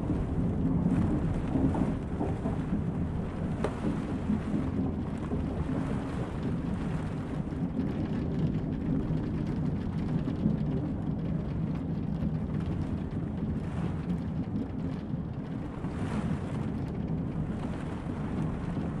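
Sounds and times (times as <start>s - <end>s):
rain pattering on windows: 0.0s - 19.0s
train carriage rumbling: 0.0s - 19.0s.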